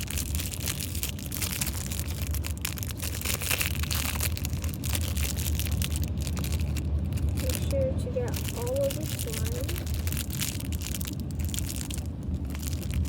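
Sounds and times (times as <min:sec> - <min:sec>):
slime crackling and popping: 0:00.0 - 0:13.0
steady low hum: 0:00.0 - 0:13.0.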